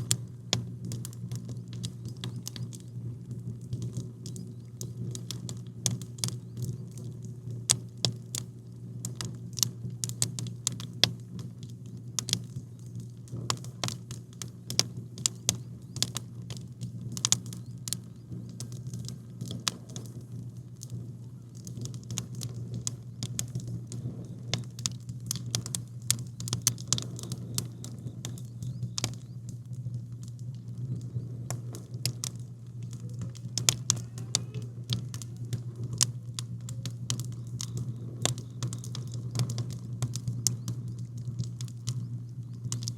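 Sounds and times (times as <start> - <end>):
campfire crackling and popping: 0.0 - 42.9
steady low hum: 0.0 - 42.9.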